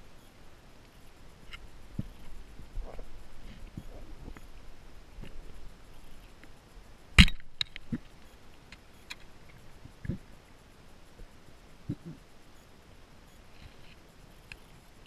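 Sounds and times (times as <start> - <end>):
faint scattered clicking: 0.8 - 4.6, 5.2 - 12.3, 13.3 - 15.0.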